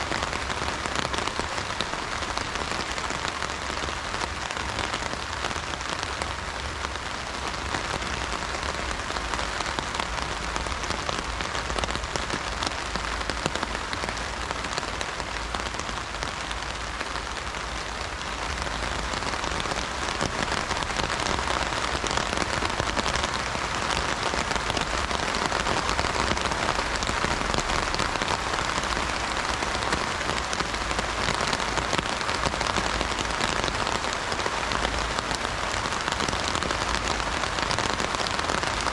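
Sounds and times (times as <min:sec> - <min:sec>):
heavy rain drumming on umbrella: 0:00.0 - 0:38.9.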